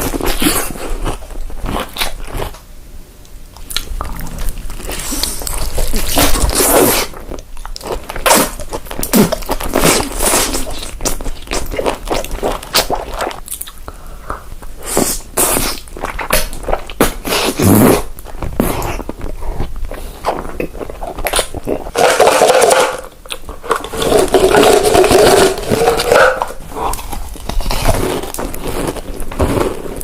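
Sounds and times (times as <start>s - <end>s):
biting and chewing: 0.0s - 2.7s, 3.6s - 13.8s, 15.0s - 30.0s
crackly mouth noises: 0.0s - 30.0s.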